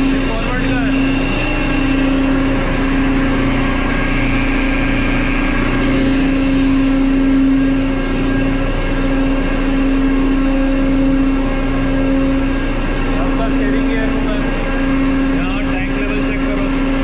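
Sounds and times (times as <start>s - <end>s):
ship machinery droning: 0.0s - 17.0s.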